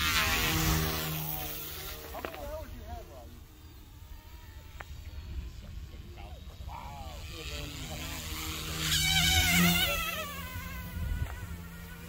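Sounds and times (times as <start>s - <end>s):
rc helicopter motor whining: 0.0s - 12.0s.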